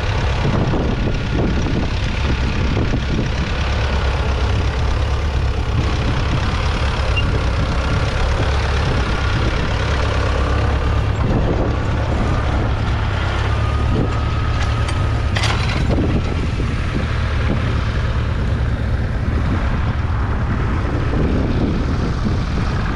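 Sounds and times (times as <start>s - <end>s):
diesel tractor engine under load: 0.0s - 22.9s.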